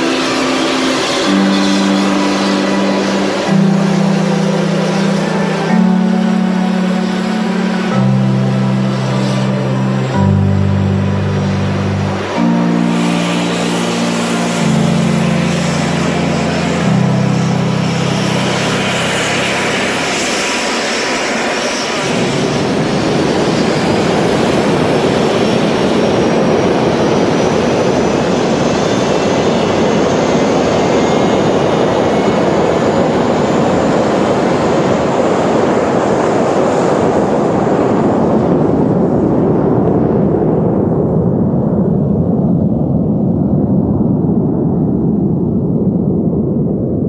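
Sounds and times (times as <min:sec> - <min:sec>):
music with held chords: 0:00.0 - 0:40.0
jet engines roaring with whine: 0:00.0 - 0:47.0.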